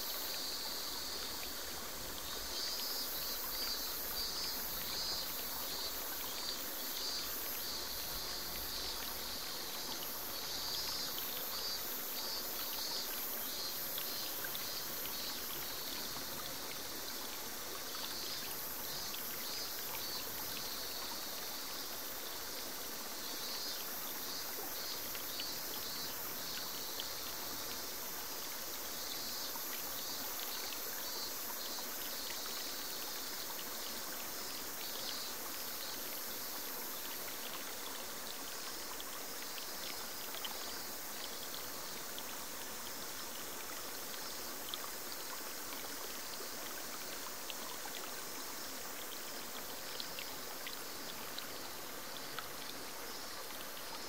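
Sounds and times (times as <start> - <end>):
insects calling in rapid pulses: 0.0 - 54.0.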